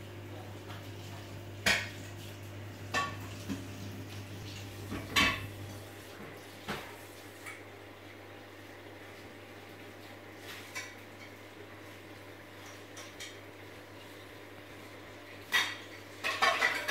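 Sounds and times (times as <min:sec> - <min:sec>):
aquarium pump hum: 0:00.0 - 0:16.9.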